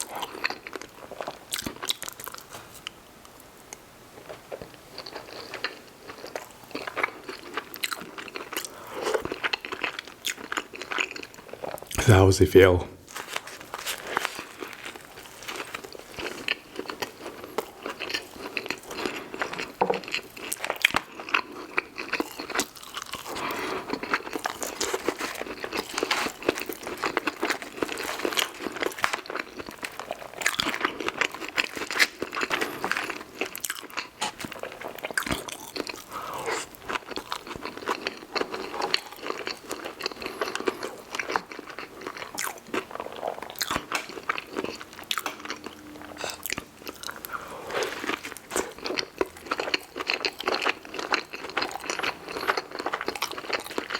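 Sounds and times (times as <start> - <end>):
crunchy eating and chewing: 0.0 - 3.4, 4.2 - 53.9.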